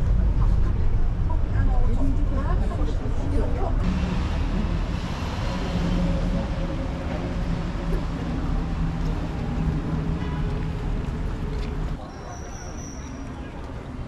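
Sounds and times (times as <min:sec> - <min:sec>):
vehicle running hum: 0:00.0 - 0:12.0.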